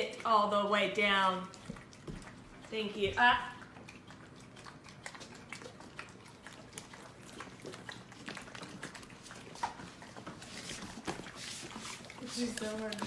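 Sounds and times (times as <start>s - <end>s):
dog licking wet smacks: 0.0s - 13.0s.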